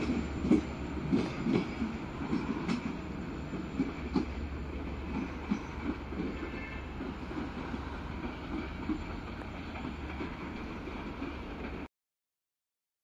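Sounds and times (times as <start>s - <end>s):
low train rumble: 0.0s - 11.9s
train wheels clacking over rail joints: 0.0s - 11.9s.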